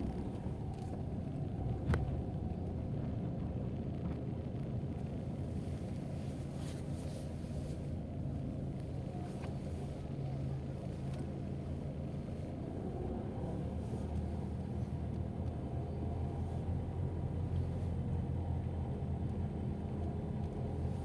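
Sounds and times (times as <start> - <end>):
low rumble with hum: 0.0 - 21.0.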